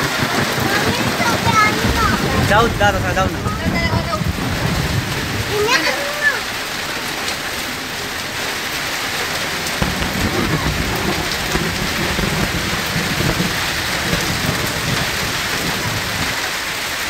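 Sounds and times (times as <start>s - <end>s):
hail and rain falling: 0.0s - 17.0s
deep rumble: 0.5s - 17.0s.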